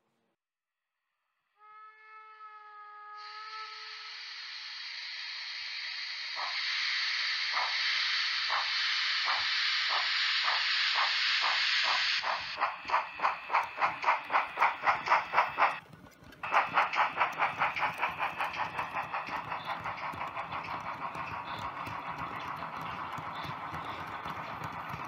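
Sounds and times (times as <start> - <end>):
steam hiss: 3.2 - 15.8, 16.4 - 25.0
model locomotive chuffing: 4.3 - 25.0.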